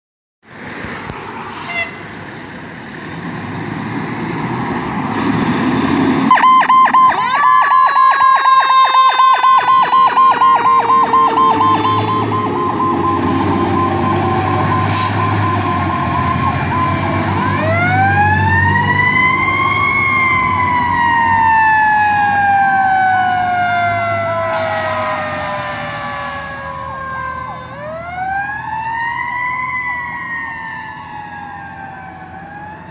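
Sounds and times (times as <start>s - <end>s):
truck engine rumble: 0.5s - 32.9s
fire engine siren wailing: 6.1s - 32.9s.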